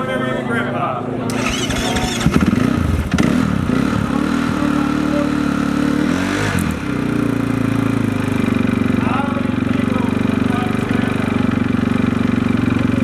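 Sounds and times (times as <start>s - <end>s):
motorcycle engines idling: 1.3s - 13.0s.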